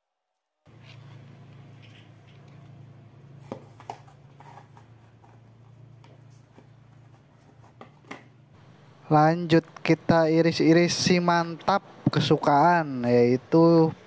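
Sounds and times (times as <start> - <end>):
steady low hum: 0.7 - 14.0.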